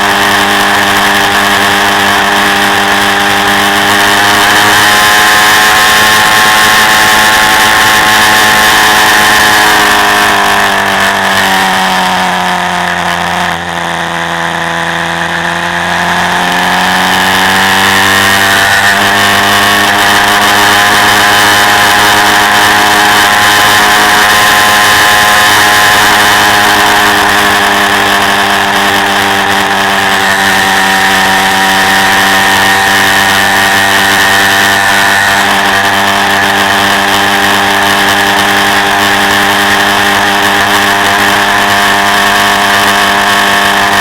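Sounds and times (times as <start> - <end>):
quad bike engine running: 0.0 - 44.0.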